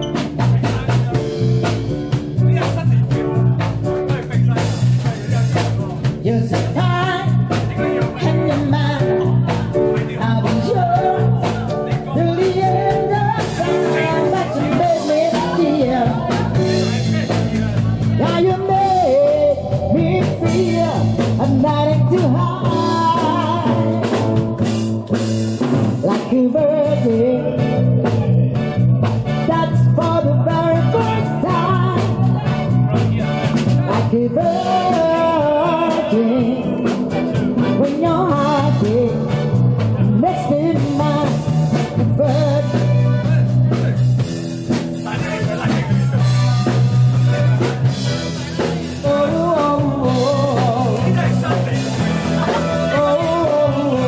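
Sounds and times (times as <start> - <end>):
person singing: 0.0 - 44.3, 45.1 - 54.0
live band playing dance song: 0.0 - 54.0.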